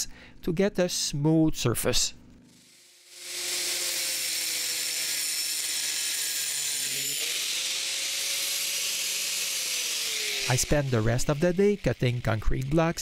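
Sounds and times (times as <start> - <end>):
power saw grinding concrete: 2.5 - 13.0.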